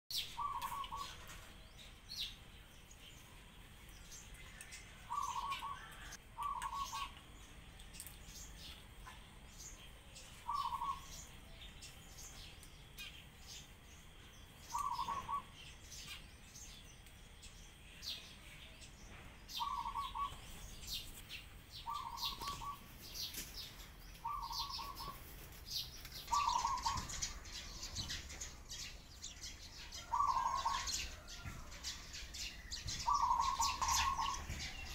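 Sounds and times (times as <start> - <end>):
doves calling: 0.1 - 17.4, 18.1 - 34.9
sparrows chirping: 0.1 - 34.9.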